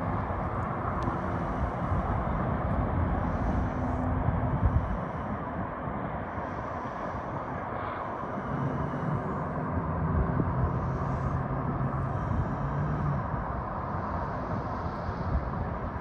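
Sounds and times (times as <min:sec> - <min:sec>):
diesel locomotives rumbling: 0:00.0 - 0:16.0
low engine drone: 0:00.0 - 0:16.0.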